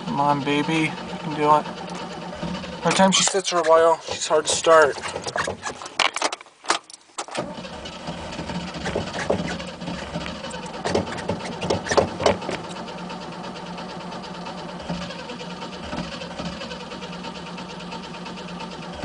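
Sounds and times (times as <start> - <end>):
engine knocks: 0.0 - 6.4, 7.2 - 19.0
car engine cranking: 0.0 - 19.0.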